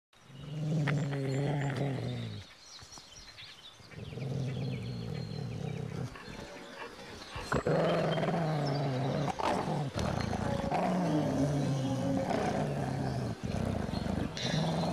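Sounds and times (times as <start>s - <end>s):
large dog growling: 0.2s - 2.6s, 3.8s - 14.9s.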